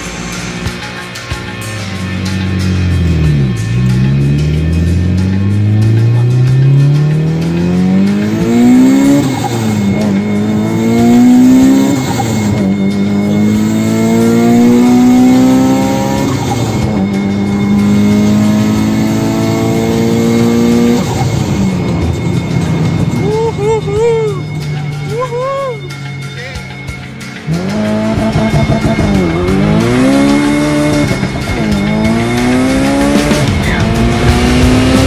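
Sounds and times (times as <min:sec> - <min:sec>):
car engine accelerating through gears: 0:00.0 - 0:35.0.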